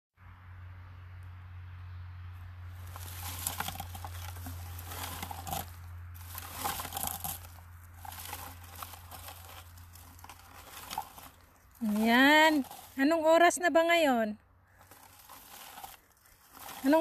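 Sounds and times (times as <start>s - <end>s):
rustling of combed leaves: 2.6s - 14.0s, 14.6s - 17.0s.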